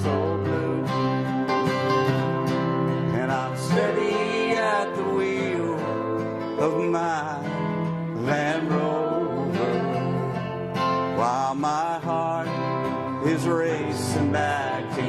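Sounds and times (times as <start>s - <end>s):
country song: 0.0s - 15.0s
sliding guitar lead line: 0.0s - 15.0s.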